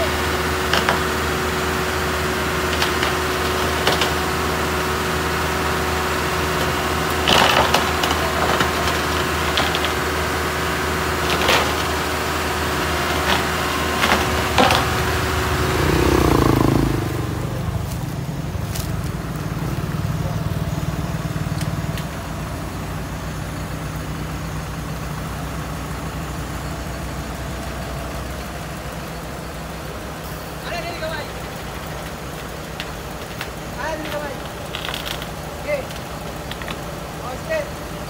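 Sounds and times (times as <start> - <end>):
diesel engine idling: 0.0 - 38.0
motor scooter engine: 0.0 - 38.0.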